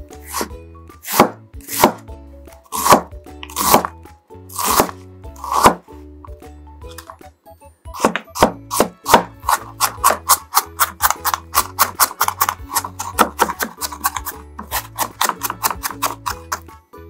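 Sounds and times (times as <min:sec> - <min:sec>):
background music: 0:00.0 - 0:17.0
knife chopping on wooden board: 0:00.2 - 0:02.1, 0:02.7 - 0:05.9, 0:07.9 - 0:16.7.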